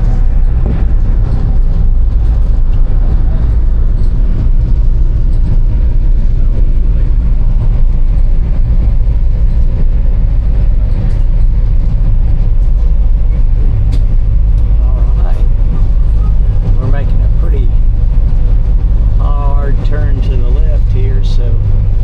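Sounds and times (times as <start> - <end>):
ferry engines droning: 0.0 - 22.0.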